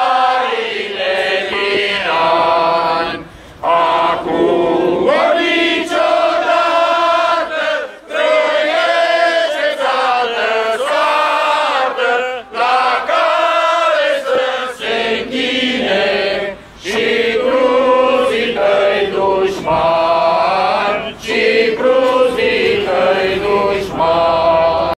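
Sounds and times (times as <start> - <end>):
crowd chanting in unison: 0.0 - 25.0.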